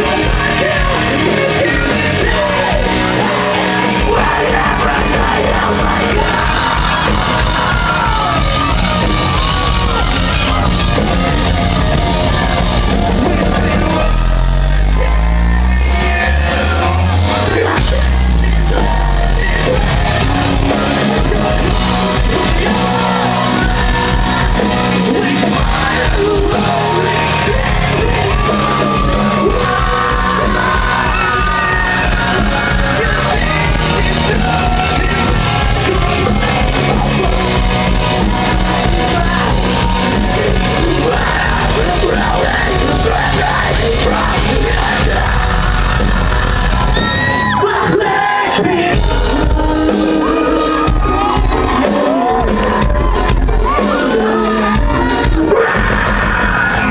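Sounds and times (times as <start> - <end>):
heavy low bass: 0.0 - 48.0
drums: 0.0 - 56.9
electric guitars: 0.0 - 56.9
shouted sung vocals: 0.0 - 56.9.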